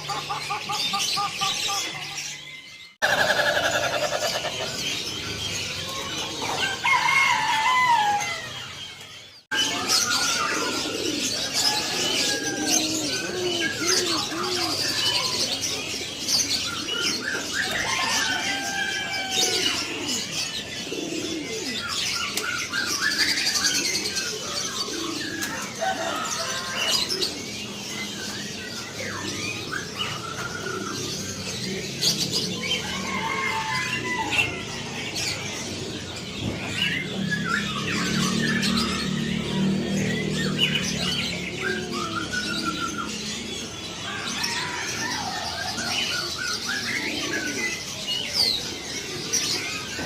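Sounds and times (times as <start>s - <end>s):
doves cooing: 0.0s - 50.0s
songbirds chirping and whistling: 0.0s - 50.0s.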